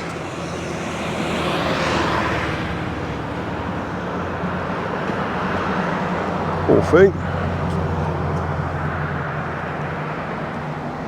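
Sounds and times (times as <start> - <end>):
low engine hum: 0.0 - 11.0
vehicle passing: 0.0 - 11.0.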